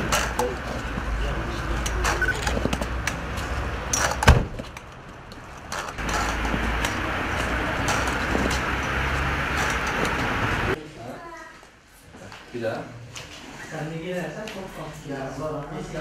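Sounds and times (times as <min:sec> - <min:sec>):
street background noise: 0:00.0 - 0:13.8.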